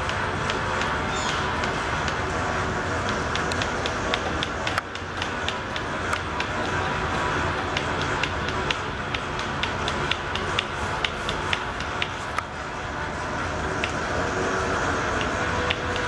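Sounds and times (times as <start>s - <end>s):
rhythmic mechanical clicking: 0.0s - 16.0s
steady low hum: 0.0s - 16.0s.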